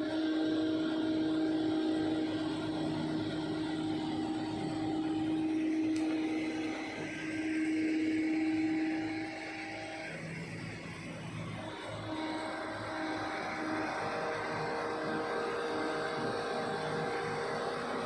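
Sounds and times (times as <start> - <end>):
excavator whining under load: 0.0 - 18.0.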